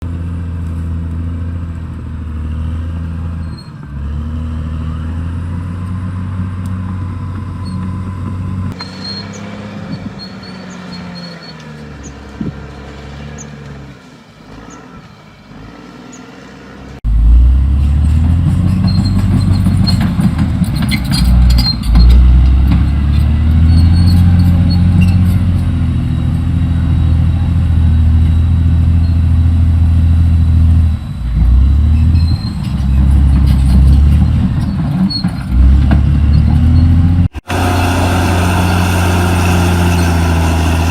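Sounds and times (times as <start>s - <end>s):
bulldozer diesel engine working: 0.0s - 40.9s.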